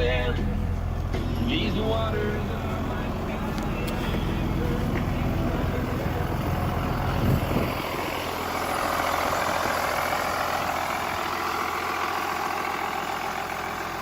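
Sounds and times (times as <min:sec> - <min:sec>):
diesel bus engine idling: 0:00.0 - 0:14.0.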